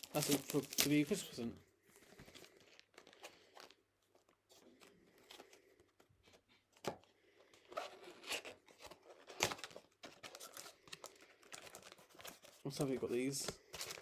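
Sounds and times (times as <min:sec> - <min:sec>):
card packs crinkling: 0:00.0 - 0:14.0.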